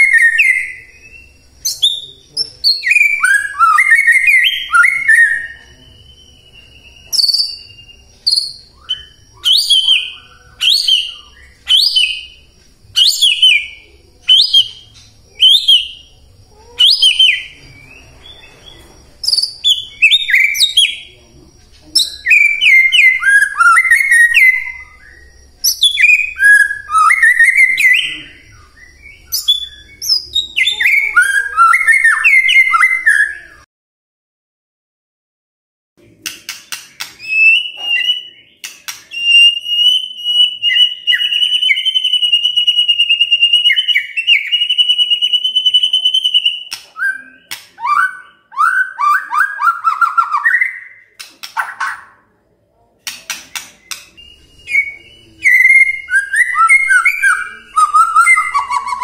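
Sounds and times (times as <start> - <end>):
songbird whistling song: 0.0 - 33.7, 36.4 - 52.4, 53.0 - 59.0.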